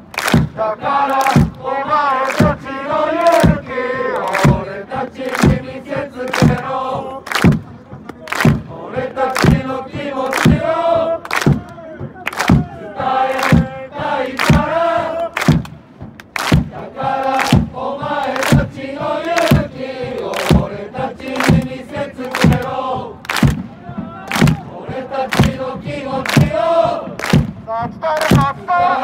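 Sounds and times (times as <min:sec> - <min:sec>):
football supporters chanting: 0:00.2 - 0:15.8, 0:16.4 - 0:29.0
steady sharp beat: 0:00.3 - 0:29.0.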